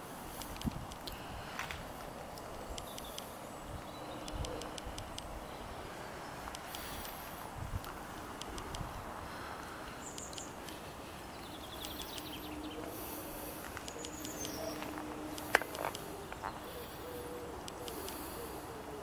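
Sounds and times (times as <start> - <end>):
background hiss: 0.0 - 19.0
small birds chirping: 0.0 - 19.0.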